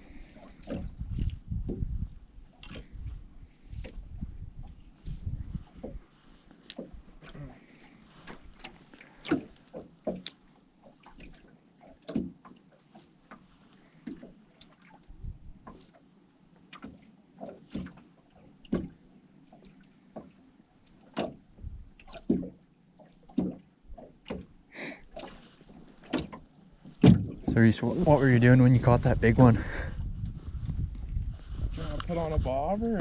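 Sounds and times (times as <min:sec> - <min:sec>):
waves slapping against boat hull: 0:00.3 - 0:33.0.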